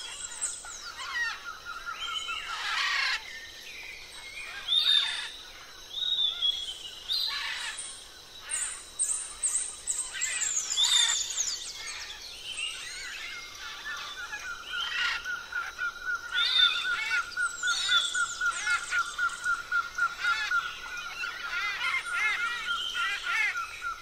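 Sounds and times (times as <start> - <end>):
birds calling and singing: 0.0 - 24.0.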